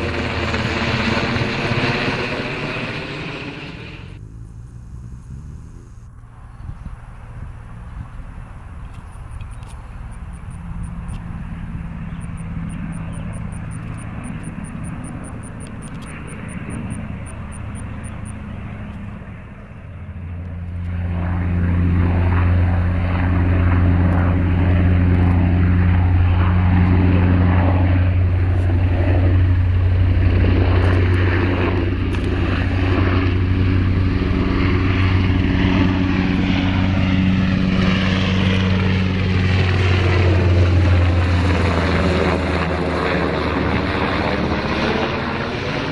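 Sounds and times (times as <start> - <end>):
aircraft engines droning: 0.0 - 45.9.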